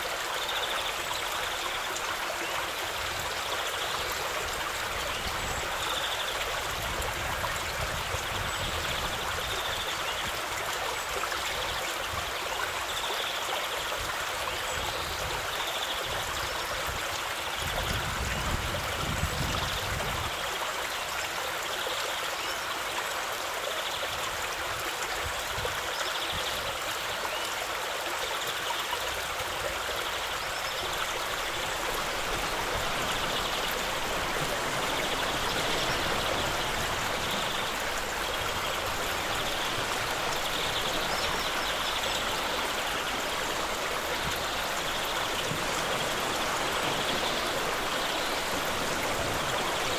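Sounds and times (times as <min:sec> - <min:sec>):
stream running over stones: 0:00.0 - 0:49.9.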